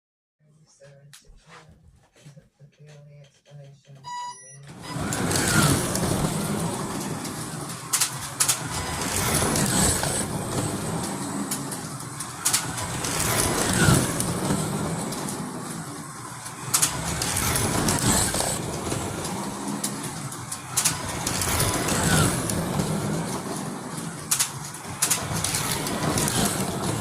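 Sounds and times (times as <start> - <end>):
slot car motors whirring: 4.6 - 27.0.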